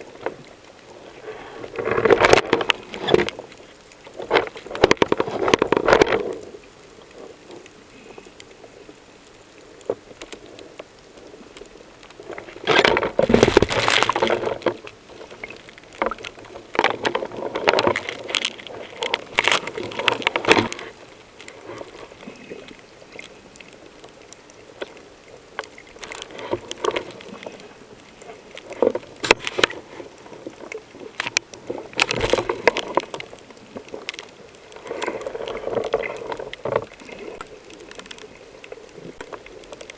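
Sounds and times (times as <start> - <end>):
underwater bubbling and rushing: 0.0 - 39.9.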